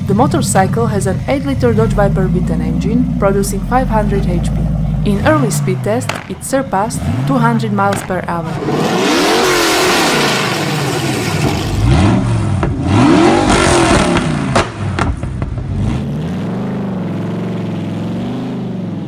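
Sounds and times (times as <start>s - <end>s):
sharp exhaust cracks: 0.0s - 16.1s
motorcycle engine revving: 0.0s - 19.0s.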